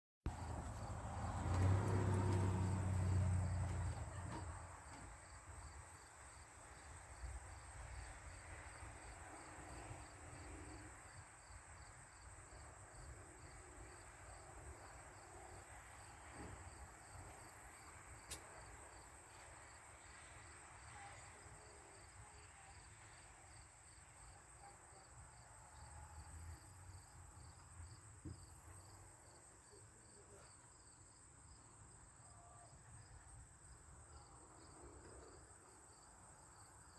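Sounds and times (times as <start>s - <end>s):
crickets chirping: 0.3s - 36.9s.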